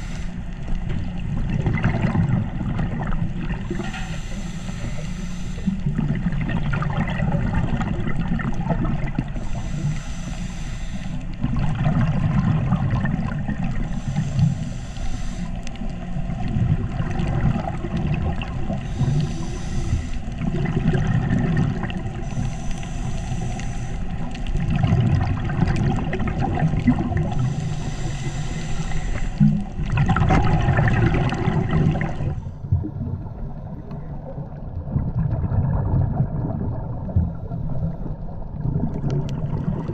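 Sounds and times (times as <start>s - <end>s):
exhaled bubbles hissing underwater: 0.0s - 39.9s
low rumble of moving water: 0.0s - 39.9s.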